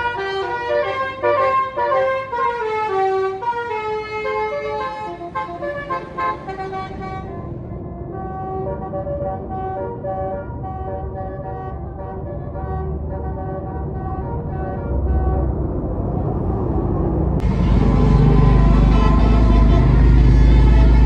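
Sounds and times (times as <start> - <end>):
musical bus horn tune: 0.0 - 15.6, 17.4 - 21.0
low bus engine rumble: 0.0 - 21.0.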